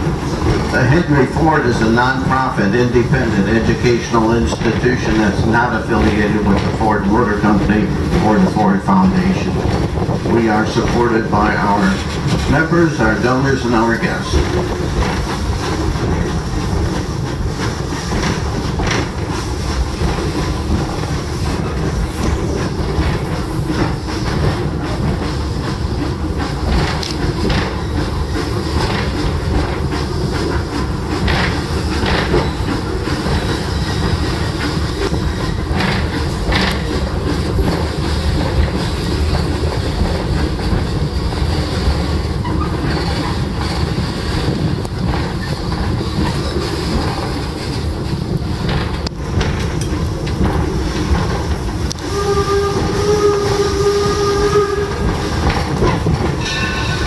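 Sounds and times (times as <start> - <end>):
train car rumbling and rattling: 0.0 - 57.0
wheels clicking over rail joints: 0.0 - 57.0.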